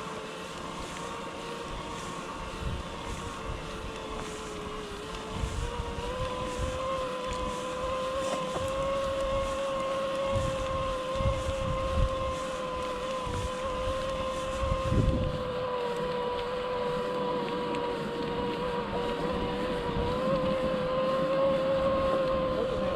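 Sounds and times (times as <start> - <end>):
bike whine: 0.0 - 22.9
wind on microphone: 1.7 - 22.9.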